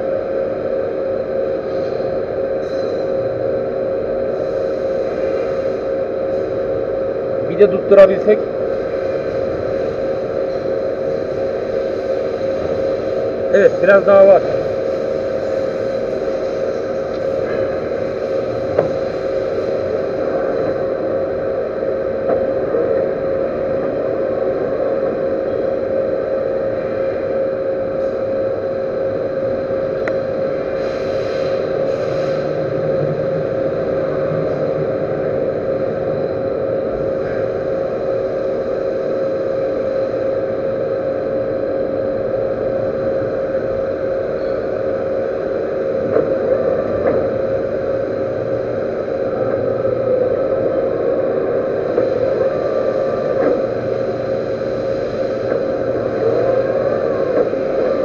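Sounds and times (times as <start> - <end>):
metal lathe whine: 0.0 - 58.0.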